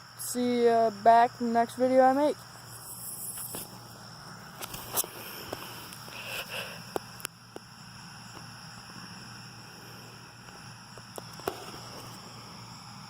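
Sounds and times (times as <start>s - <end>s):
insect chirring: 0.0s - 13.0s
low steady hum: 0.0s - 13.0s.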